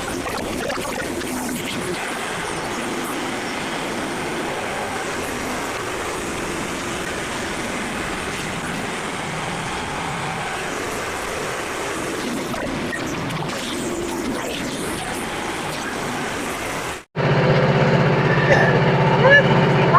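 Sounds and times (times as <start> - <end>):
band sawmill running: 0.0 - 19.9.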